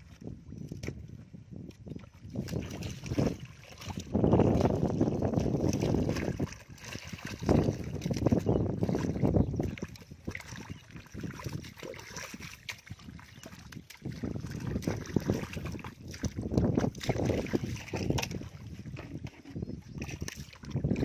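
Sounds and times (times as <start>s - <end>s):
muddy water sloshing: 0.0s - 21.0s
plastic pipe scraping mud: 0.0s - 21.0s
feet squelching in mud: 2.4s - 21.0s.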